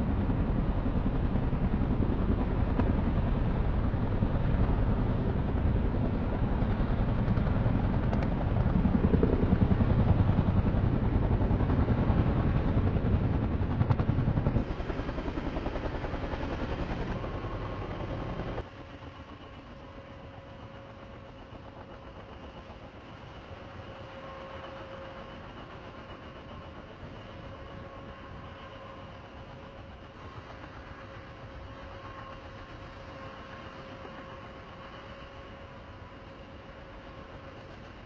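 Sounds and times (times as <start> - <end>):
aircraft engine noise: 0.0 - 38.0
faint steady whine: 0.0 - 38.0.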